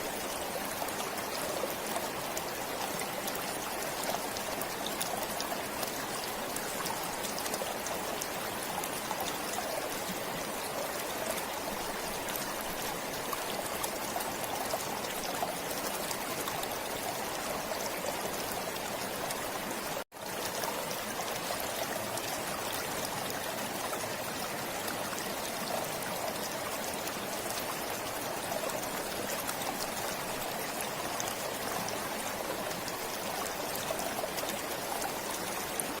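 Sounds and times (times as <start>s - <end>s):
stream flowing: 0.0s - 36.0s.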